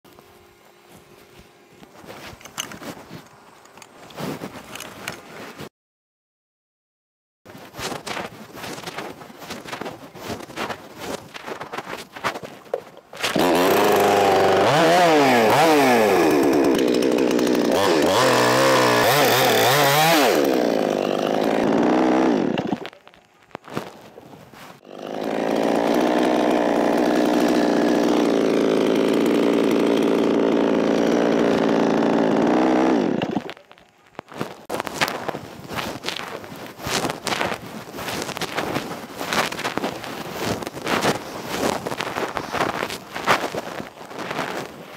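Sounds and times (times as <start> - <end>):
chainsaw cutting wood: 7.6 - 44.9.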